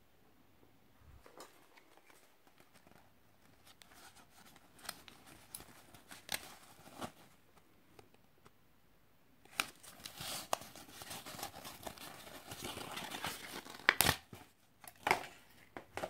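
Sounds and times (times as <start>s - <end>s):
gloves and cardboard tag rustling: 1.2s - 8.3s, 9.4s - 16.0s.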